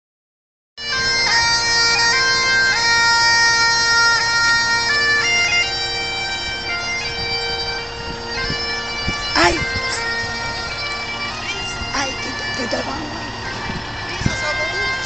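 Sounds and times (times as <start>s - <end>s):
bagpipes playing slow tune: 0.8s - 15.0s.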